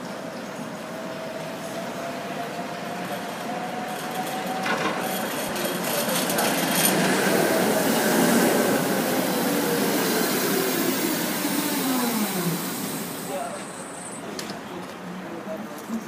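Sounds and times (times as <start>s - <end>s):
rushing noise of passing tram: 0.0s - 16.0s
tram wheels on rails: 0.0s - 16.0s.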